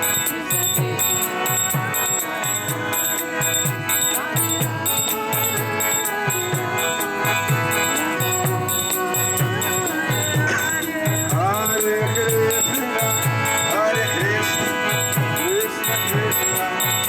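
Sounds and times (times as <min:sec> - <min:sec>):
held instrumental notes: 0:00.0 - 0:17.0.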